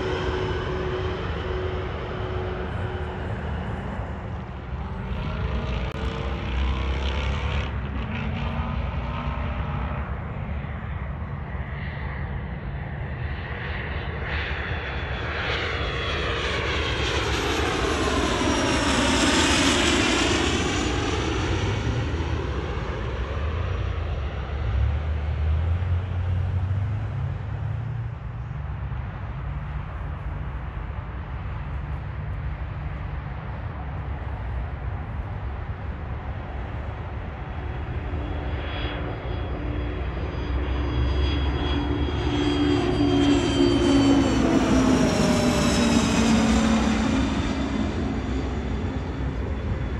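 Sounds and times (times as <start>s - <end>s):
jet passing overhead: 0.0s - 27.8s, 28.5s - 49.9s.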